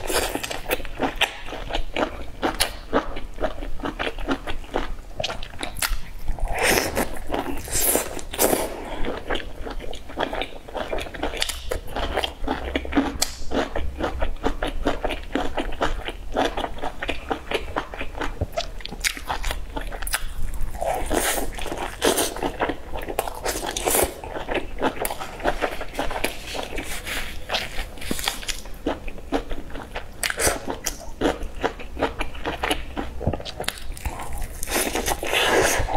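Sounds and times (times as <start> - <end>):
chewing and biting flatbread: 0.0 - 35.9.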